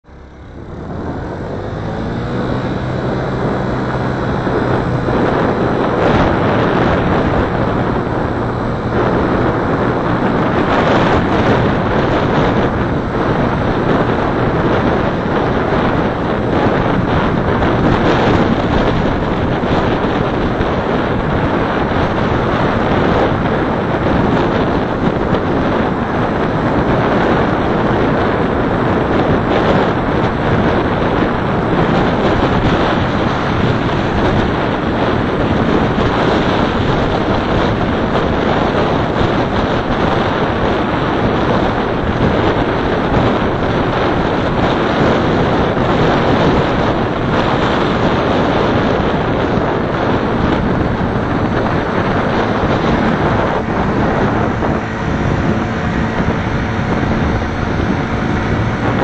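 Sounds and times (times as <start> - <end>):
low engine hum: 0.0 - 59.0
road and tyre noise: 0.0 - 59.0.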